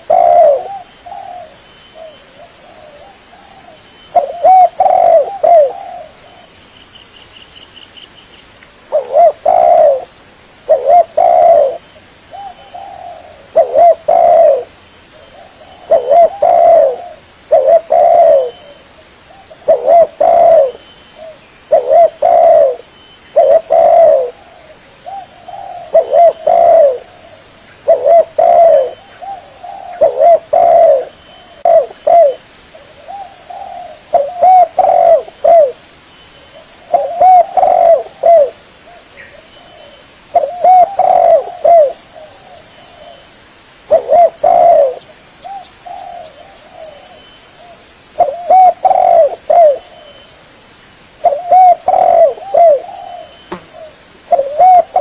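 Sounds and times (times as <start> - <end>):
dove cooing: 0.0 - 6.6, 8.9 - 35.9, 36.5 - 43.3, 43.9 - 50.3, 51.2 - 55.0.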